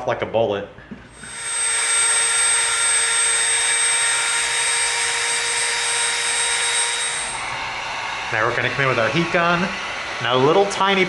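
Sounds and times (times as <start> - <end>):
rotary tool motor whine: 1.1 - 11.0.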